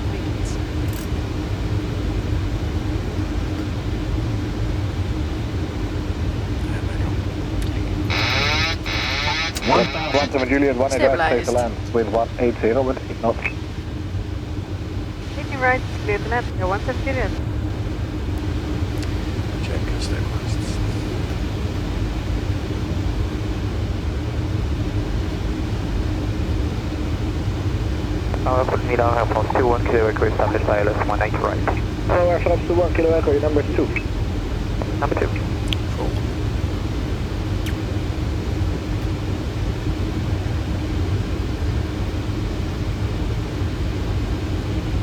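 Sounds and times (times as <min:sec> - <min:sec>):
airflow and engine rushing: 0:00.0 - 0:45.0
faint steady hum: 0:00.0 - 0:45.0.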